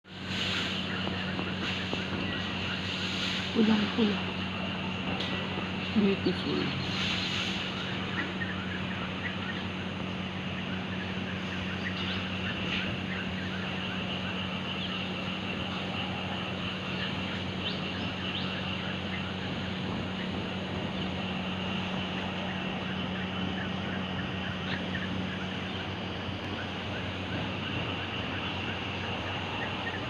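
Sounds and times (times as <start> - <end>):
low hum: 0.0 - 30.0
birds chirping and twittering: 0.1 - 30.0.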